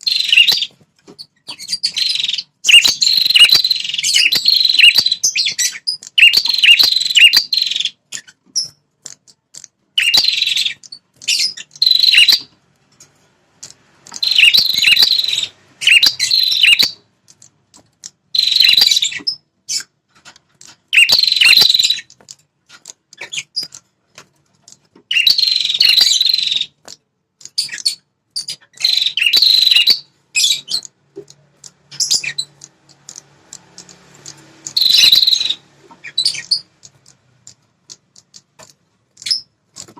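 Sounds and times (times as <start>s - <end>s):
bird high chattering song: 0.0s - 12.6s, 13.6s - 20.0s, 20.6s - 22.2s, 24.7s - 39.9s.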